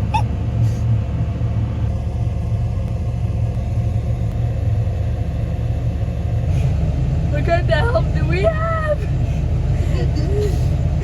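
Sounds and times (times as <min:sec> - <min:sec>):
farm machinery engine drone: 0:00.0 - 0:11.0.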